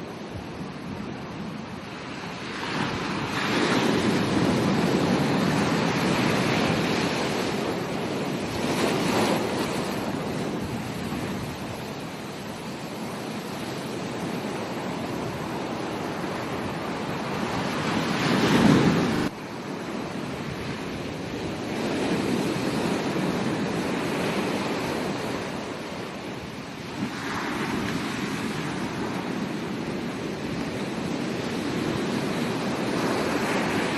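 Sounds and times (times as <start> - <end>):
ocean surf washing onto beach: 0.0 - 33.9.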